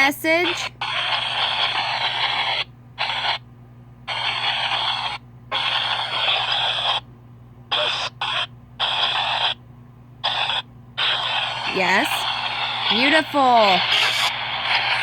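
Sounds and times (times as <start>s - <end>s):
radio static and fragments: 0.0s - 3.4s, 4.1s - 7.1s, 7.7s - 9.6s, 10.2s - 15.0s
steady low hum: 0.0s - 15.0s.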